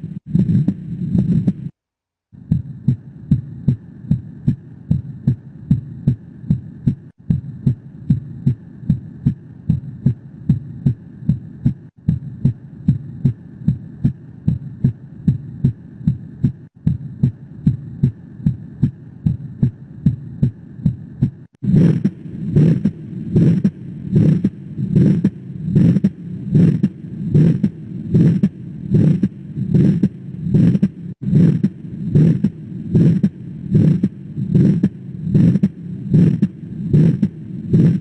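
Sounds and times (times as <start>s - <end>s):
heartbeat through stethoscope: 0.0s - 38.0s.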